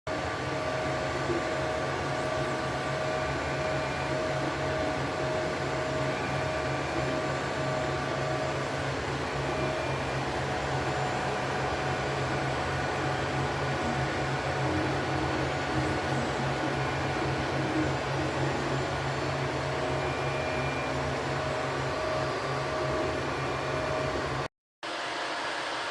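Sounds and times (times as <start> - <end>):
fan whirring: 0.2 - 24.4
printer motor tones: 0.4 - 24.5.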